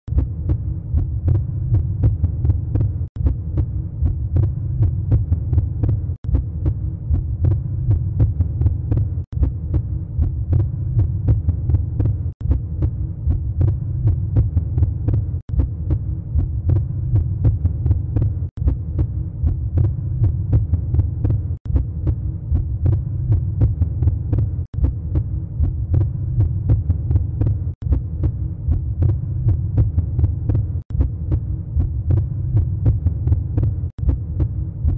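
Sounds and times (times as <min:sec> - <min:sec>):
low heartbeat throbbing: 0:00.0 - 0:34.9.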